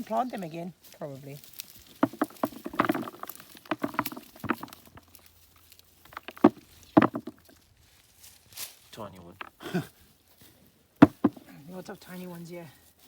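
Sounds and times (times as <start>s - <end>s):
hands digging through dry soil: 0.0s - 10.8s.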